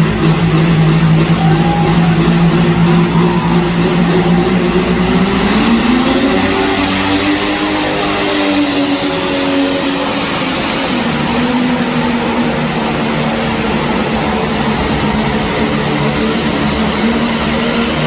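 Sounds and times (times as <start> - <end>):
tractor diesel engine running hard: 0.0 - 18.0.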